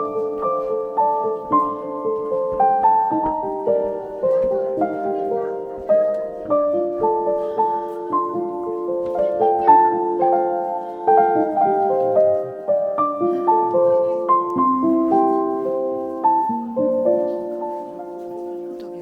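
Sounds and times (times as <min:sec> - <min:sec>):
background piano music: 0:00.0 - 0:19.0.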